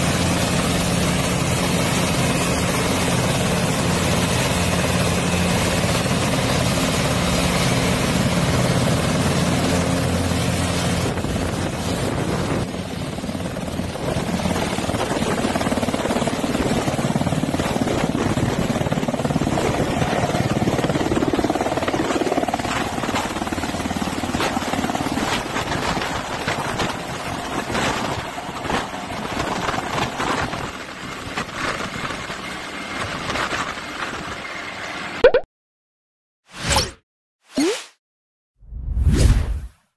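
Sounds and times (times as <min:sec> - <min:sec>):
helicopter engine hum: 0:00.0 - 0:35.2
helicopter rotor beat: 0:00.0 - 0:35.2.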